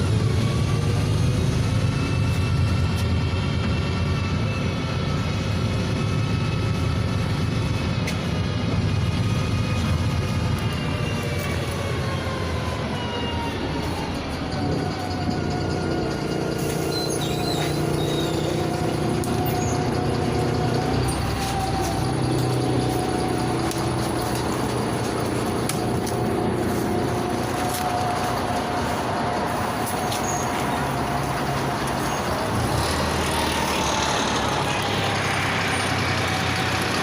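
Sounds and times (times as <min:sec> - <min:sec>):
bus drivetrain whine: 0:00.0 - 0:37.0
low diesel hum: 0:00.0 - 0:37.0.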